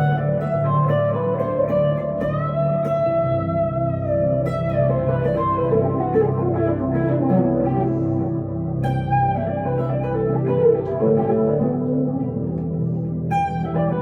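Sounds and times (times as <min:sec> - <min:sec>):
electric guitar melodic lead: 0:00.0 - 0:14.0.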